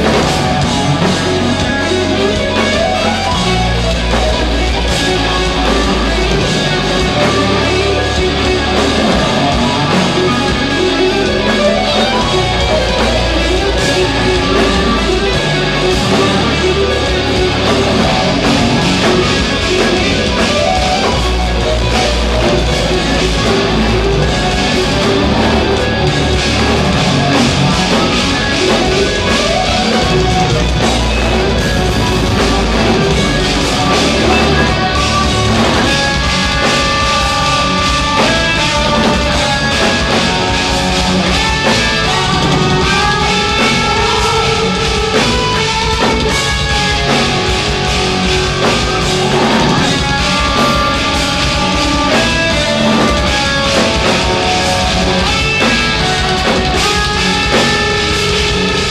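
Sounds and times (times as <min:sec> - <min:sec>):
melodic electric guitar lines: 0:00.0 - 0:58.9
metal band playing live: 0:00.0 - 0:58.9.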